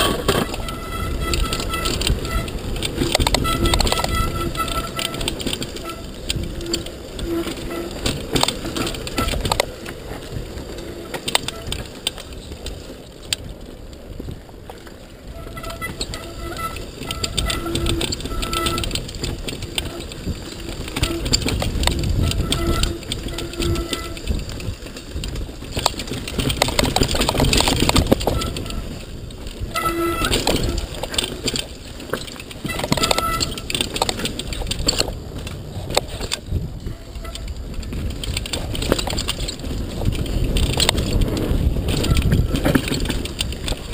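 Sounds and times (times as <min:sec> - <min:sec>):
bike clattering over bumps: 0:00.0 - 0:43.9
tyre and wind rush: 0:00.0 - 0:43.9.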